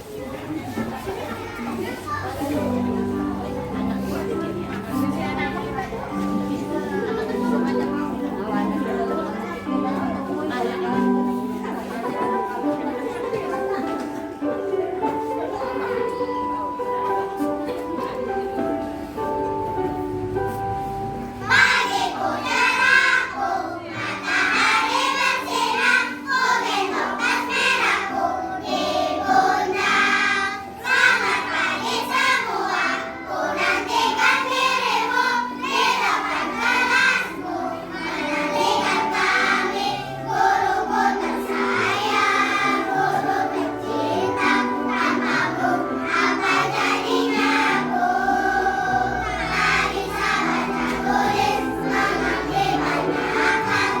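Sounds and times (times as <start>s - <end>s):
children's choir singing: 0.0s - 54.0s.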